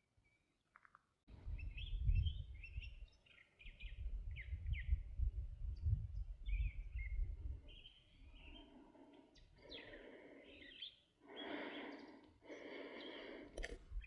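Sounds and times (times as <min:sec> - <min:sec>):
small birds chirping: 0:01.5 - 0:05.1, 0:05.7 - 0:14.0.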